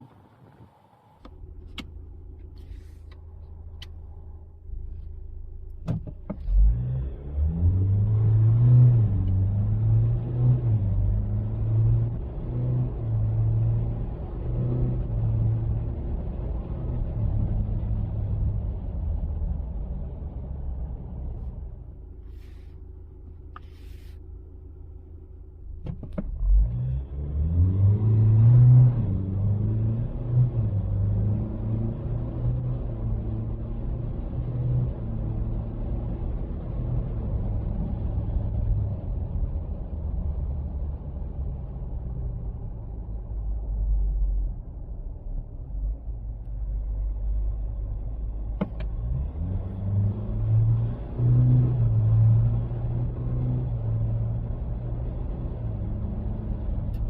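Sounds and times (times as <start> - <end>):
diesel engine: 0.0 - 57.0.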